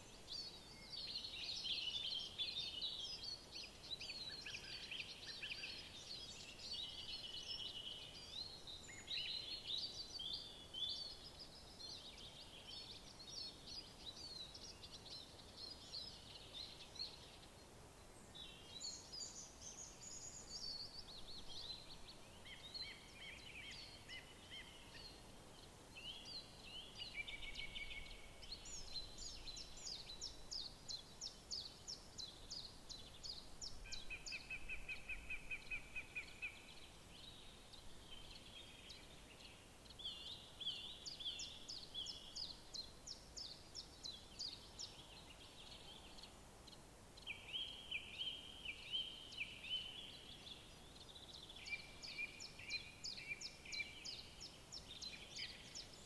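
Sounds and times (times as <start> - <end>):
faint steady hiss: 0.0 - 56.0
songbirds singing: 0.0 - 56.0.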